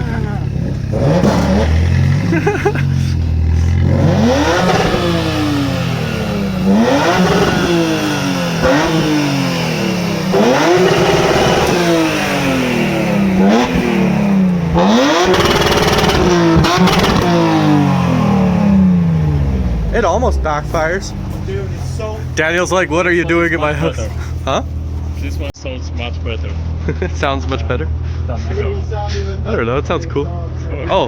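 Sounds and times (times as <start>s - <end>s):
car engine revving: 0.0s - 25.6s
exhaust crackles: 0.0s - 25.6s.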